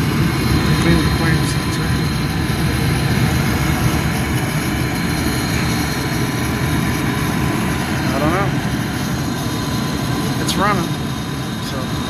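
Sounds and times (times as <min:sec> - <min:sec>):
furnace low rushing: 0:00.0 - 0:12.0.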